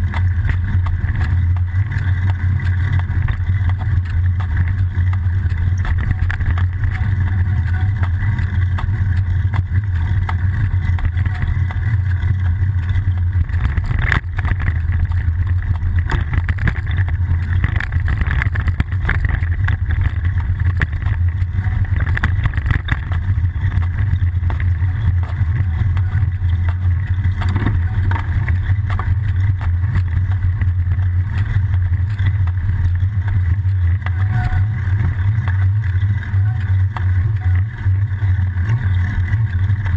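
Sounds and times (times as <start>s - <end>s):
road vibration rumble: 0.0s - 39.9s
wind: 0.0s - 39.9s.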